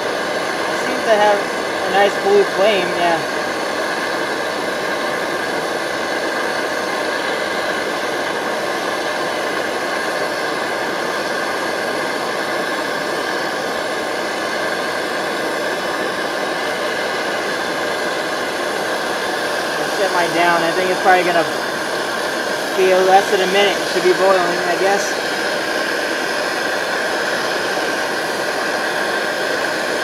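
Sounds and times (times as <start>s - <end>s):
stove burner roaring: 0.0s - 30.0s.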